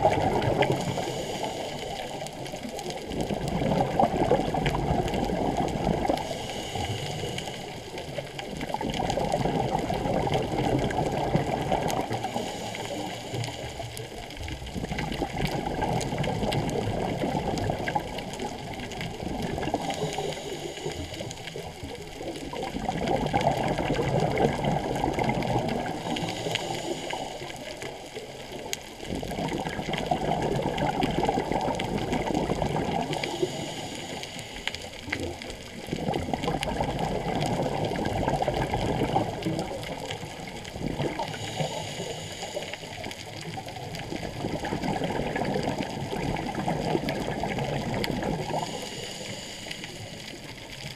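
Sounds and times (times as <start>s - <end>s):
scuba exhaust bubbles: 0.0s - 50.9s.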